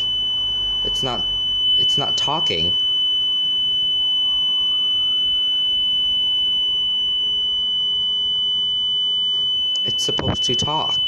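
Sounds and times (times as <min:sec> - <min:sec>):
alarm panel continuous high tone: 0:00.0 - 0:11.0.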